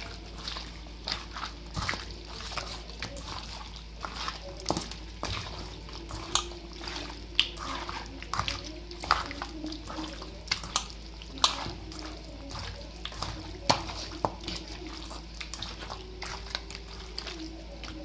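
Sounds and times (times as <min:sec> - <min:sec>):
hands squelching raw meat: 0:00.0 - 0:18.0.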